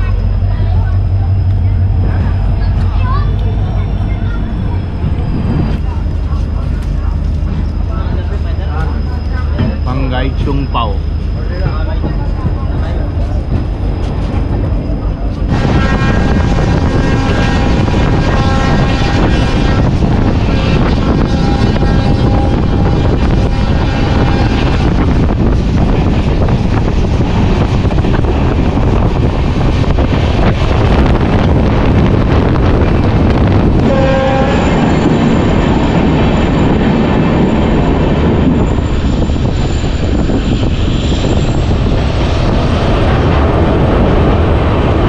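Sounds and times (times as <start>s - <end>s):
train wheels rumbling on rails: 0.0s - 45.0s
wind on microphone: 0.0s - 45.0s.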